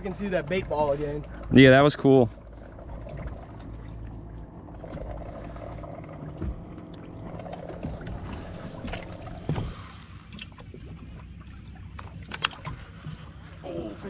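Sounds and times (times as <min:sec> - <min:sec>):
low steady hum: 0:00.0 - 0:14.0
water lapping against boat hull: 0:00.0 - 0:14.0.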